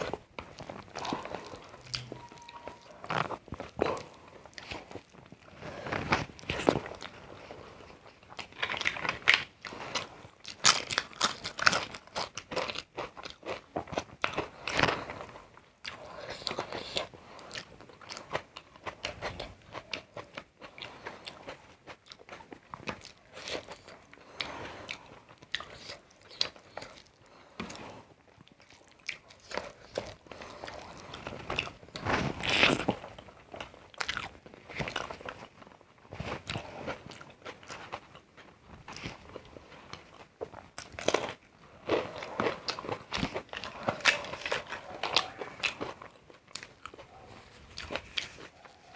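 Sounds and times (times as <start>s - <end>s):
crunching and chewing crisp food: 0.0s - 48.9s.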